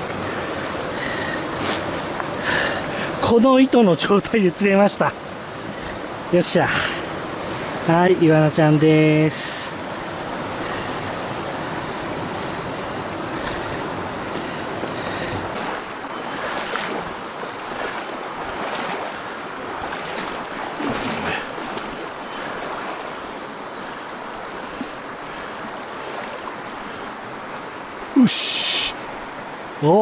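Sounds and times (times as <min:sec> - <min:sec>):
water rushing over stones: 0:00.0 - 0:30.0.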